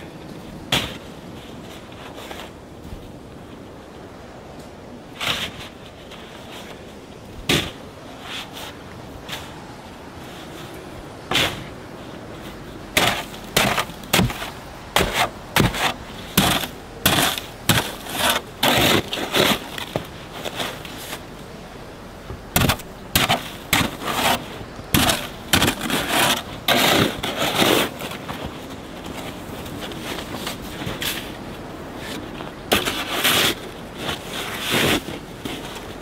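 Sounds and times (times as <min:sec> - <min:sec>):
snow shovel scooping snow: 0:00.7 - 0:02.6, 0:05.1 - 0:09.6, 0:10.2 - 0:21.3, 0:22.5 - 0:36.0.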